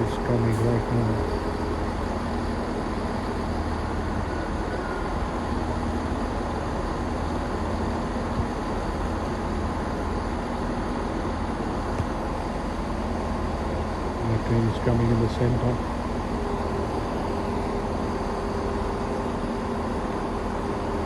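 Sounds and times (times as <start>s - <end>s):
train rumbling into station: 0.0s - 21.0s.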